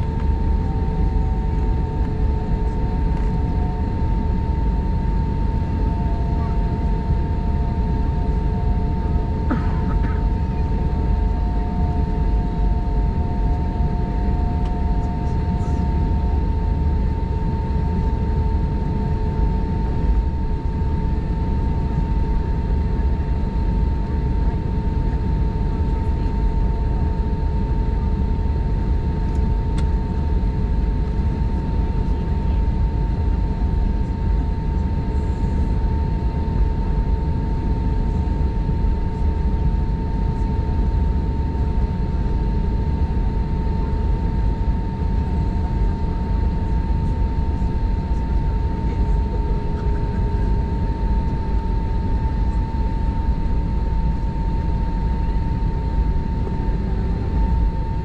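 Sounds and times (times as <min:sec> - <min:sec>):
aircraft cabin rumble: 0:00.0 - 0:58.0
jet engine whine: 0:00.0 - 0:58.0.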